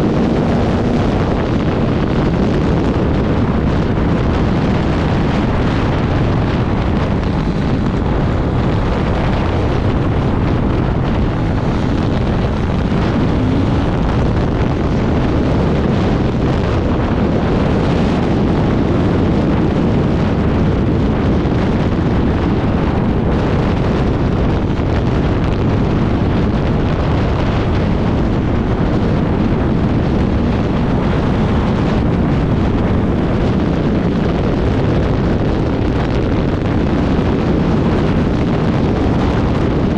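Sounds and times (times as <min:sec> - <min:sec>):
dirt bike engine running hard: 0:00.0 - 0:39.9
wind buffeting on microphone: 0:00.0 - 0:39.9.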